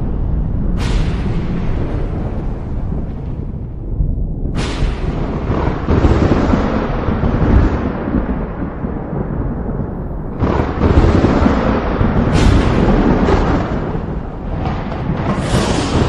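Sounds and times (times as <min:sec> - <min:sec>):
rain: 0:00.0 - 0:16.0
thunder rumbling: 0:00.0 - 0:16.0.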